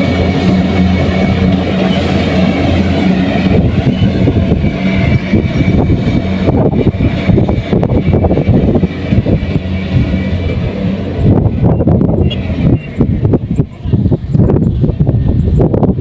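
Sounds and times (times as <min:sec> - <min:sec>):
diesel engine running: 0:00.0 - 0:16.0
machinery rattling and clattering: 0:00.0 - 0:16.0.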